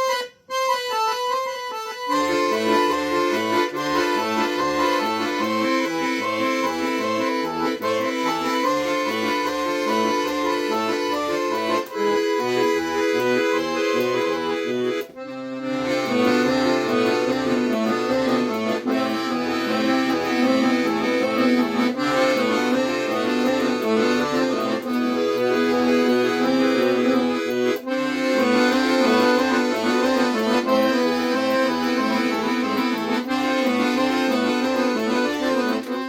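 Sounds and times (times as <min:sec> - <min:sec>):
accordion melody: 0:00.0 - 0:36.0.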